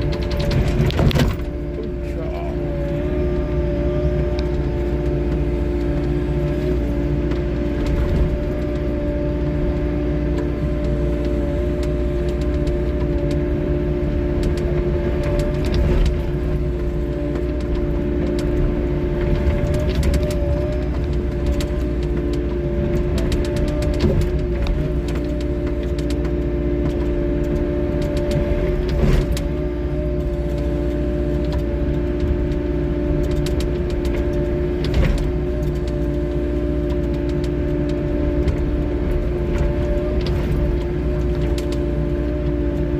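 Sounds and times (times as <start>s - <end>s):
excavator engine and hydraulics: 0.0s - 42.9s.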